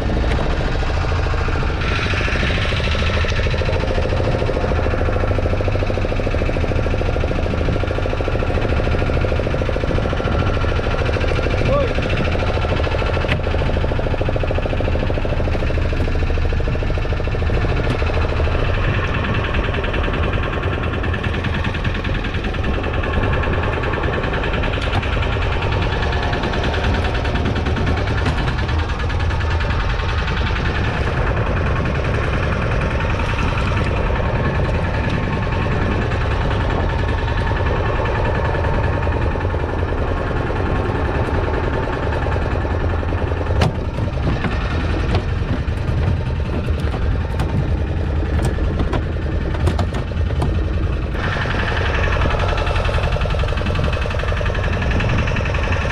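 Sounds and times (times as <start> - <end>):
boat engine throbbing: 0.0 - 55.9.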